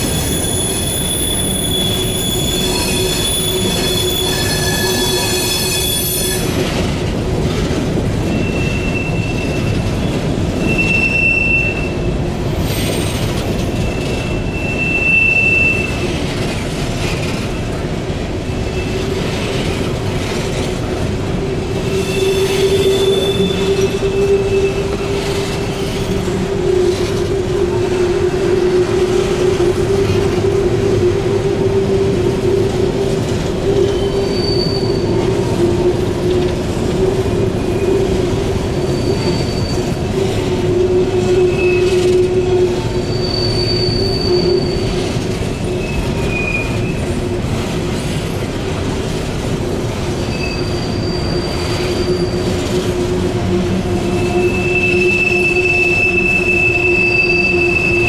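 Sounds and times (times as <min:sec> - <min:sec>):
high-pitched wheel squeals: 0:00.0 - 0:06.8, 0:08.2 - 0:16.3, 0:21.7 - 0:31.6, 0:32.4 - 0:47.2, 0:50.2 - 0:58.0
train wheels rumbling on rail: 0:00.0 - 0:58.0.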